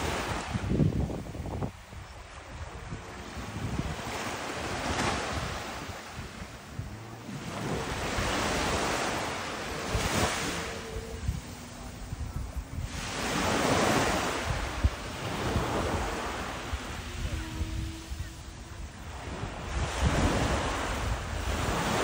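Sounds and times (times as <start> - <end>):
surf washing onto beach: 0.0 - 22.0
wind rumbling on microphone: 0.0 - 22.0.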